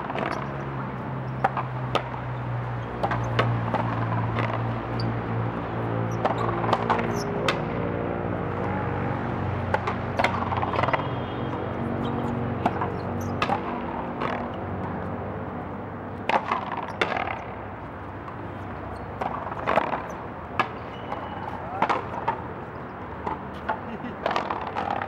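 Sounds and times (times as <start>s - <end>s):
ball struck by racquets: 0.0s - 7.9s, 9.6s - 15.1s, 16.2s - 17.7s, 18.3s - 25.0s.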